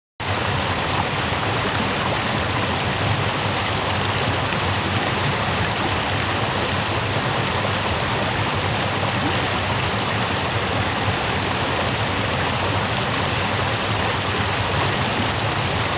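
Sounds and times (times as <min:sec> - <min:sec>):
waterfall rushing and splashing: 0:00.2 - 0:15.9.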